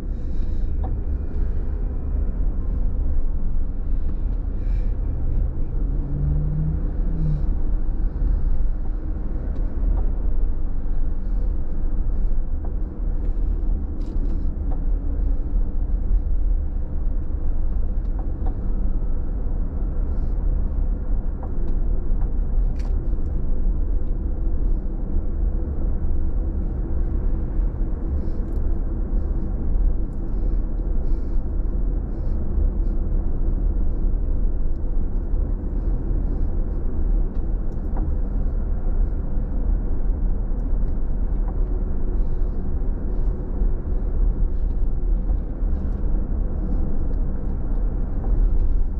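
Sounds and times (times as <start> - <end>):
car interior road rumble: 0.0 - 48.9.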